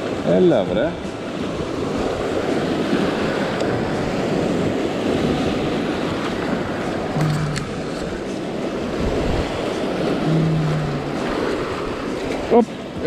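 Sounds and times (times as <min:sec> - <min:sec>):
waves breaking on rocks: 0:00.0 - 0:13.0
wind buffeting microphone: 0:00.0 - 0:13.0.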